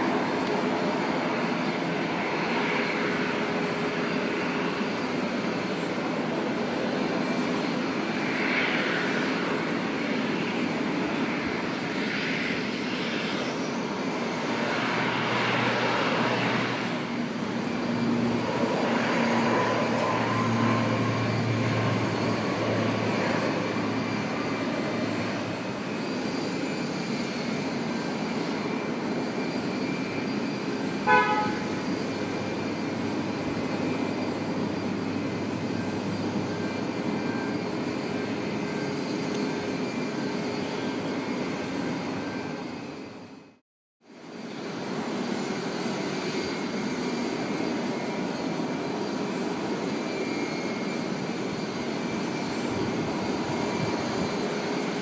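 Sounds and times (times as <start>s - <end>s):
aircraft engines rushing: 0.0s - 55.0s.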